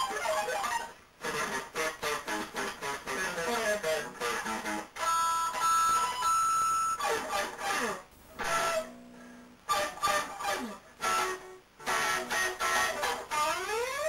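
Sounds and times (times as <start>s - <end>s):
acoustic guitar picking: 0.0s - 13.9s.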